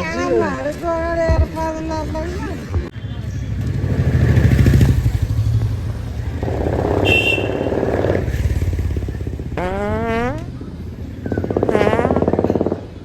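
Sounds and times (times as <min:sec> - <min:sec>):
vehicle engine rumbling: 0:01.5 - 0:13.0.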